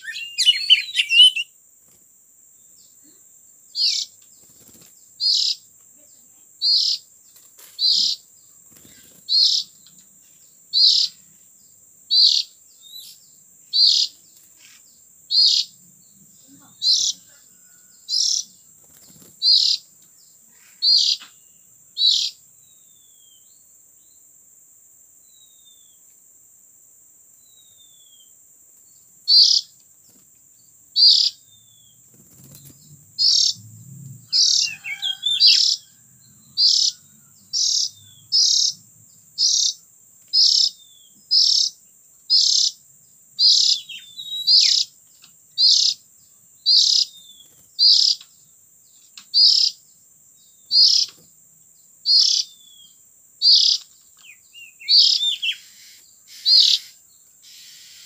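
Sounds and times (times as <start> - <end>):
bird chirping: 0.0 - 1.6, 2.6 - 24.4, 25.1 - 26.1, 27.4 - 58.0
high insect-like hiss: 0.0 - 58.0.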